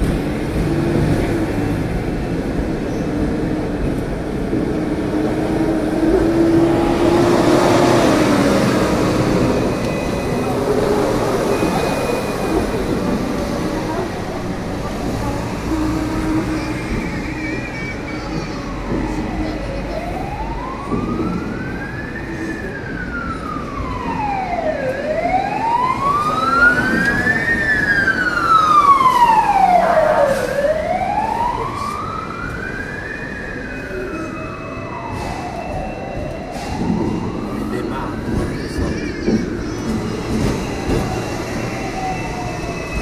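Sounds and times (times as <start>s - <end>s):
tram rumbling on rails: 0.0s - 43.0s
emergency siren wailing: 3.2s - 43.0s.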